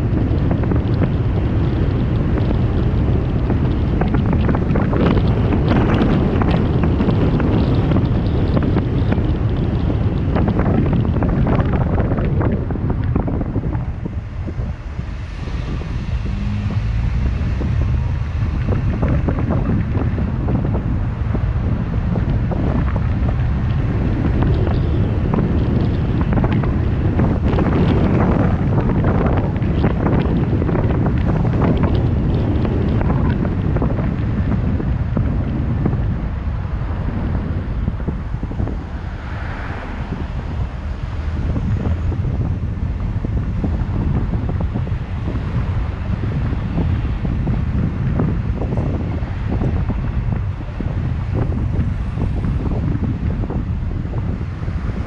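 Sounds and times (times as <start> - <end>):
low road rumble: 0.0 - 55.0
wind buffeting microphone: 0.0 - 55.0.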